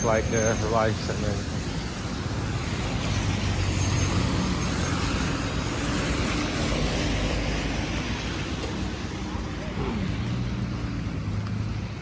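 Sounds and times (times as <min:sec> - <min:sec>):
tyres hissing on wet road: 0:00.0 - 0:12.0
vehicle engines humming: 0:00.0 - 0:12.0.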